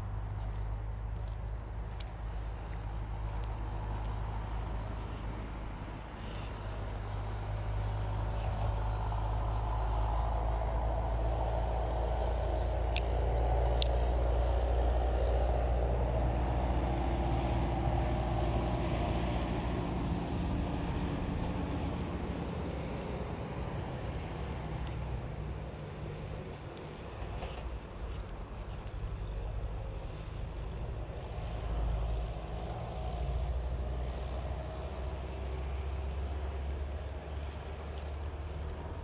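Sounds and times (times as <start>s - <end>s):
heavy vehicle engine rumble: 0.0s - 39.0s.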